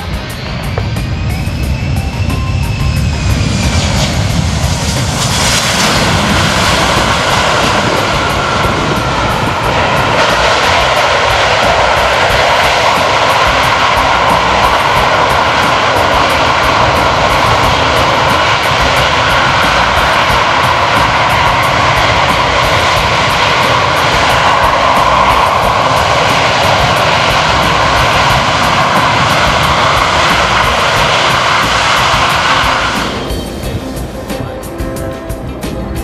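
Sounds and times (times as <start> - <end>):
falling jet whine: 0.0 - 35.9
jet engine roar: 0.0 - 36.0.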